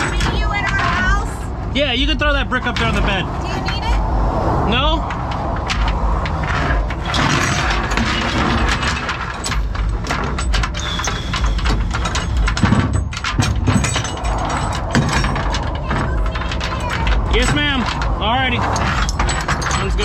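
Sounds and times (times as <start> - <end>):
gear clanking and knocking: 0.0 - 4.0, 4.7 - 20.0.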